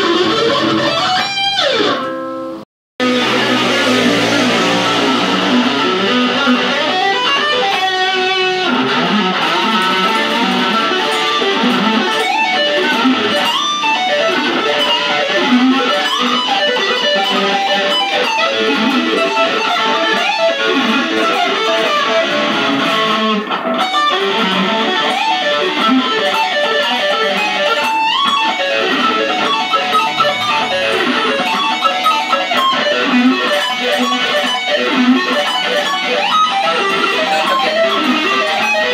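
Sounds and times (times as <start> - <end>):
electric guitar lead lines: 0.0 - 38.9.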